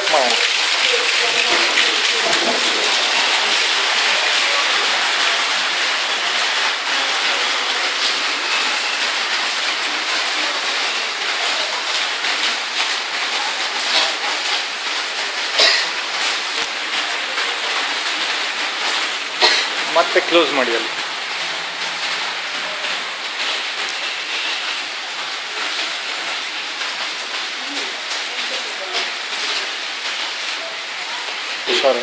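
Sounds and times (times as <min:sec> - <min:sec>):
heavy rain: 0:00.0 - 0:32.0
rainwater running through drain pipes: 0:00.0 - 0:32.0.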